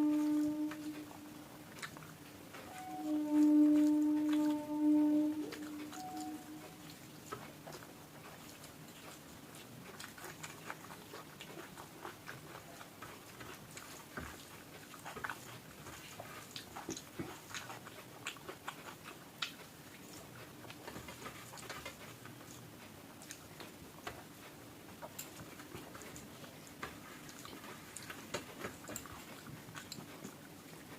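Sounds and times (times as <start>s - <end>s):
chewing with wet mouth smacks: 0.7s - 2.8s, 5.5s - 30.9s.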